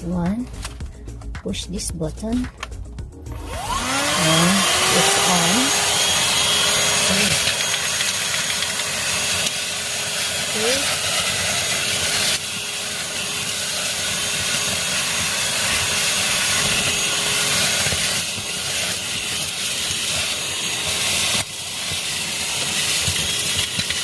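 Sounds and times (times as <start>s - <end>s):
handheld vacuum running: 3.2s - 24.0s.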